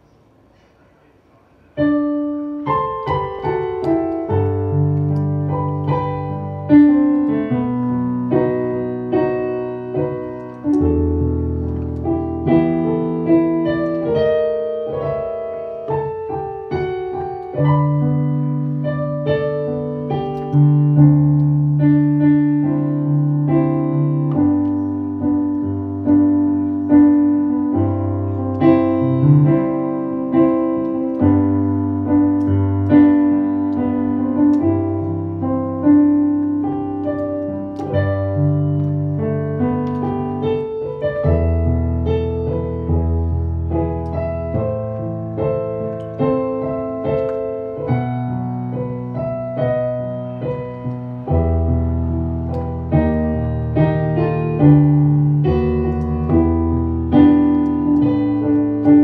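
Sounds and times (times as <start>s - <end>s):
digital piano playing hymn chords: 0.0s - 59.0s.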